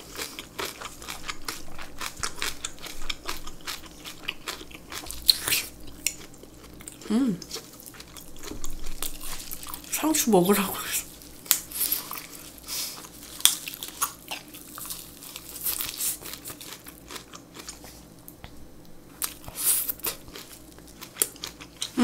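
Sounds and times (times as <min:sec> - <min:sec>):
crunching and chewing lettuce wrap: 0:00.0 - 0:22.0.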